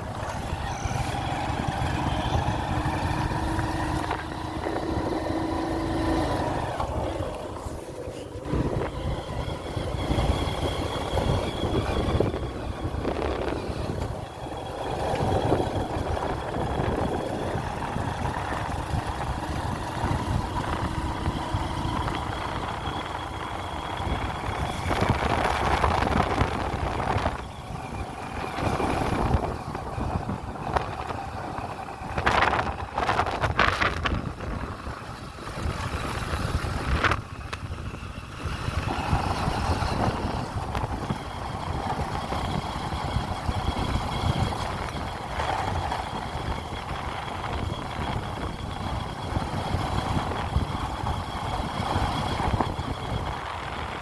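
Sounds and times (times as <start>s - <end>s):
vehicle engine running while driving: 0.0s - 54.0s.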